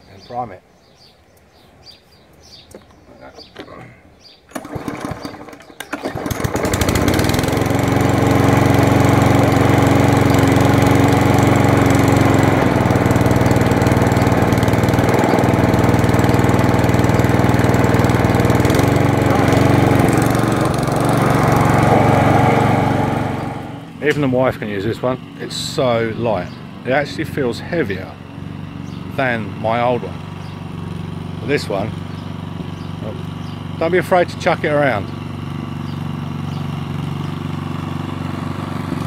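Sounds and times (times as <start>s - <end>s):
lawnmower engine pull-started: 2.8s - 39.0s.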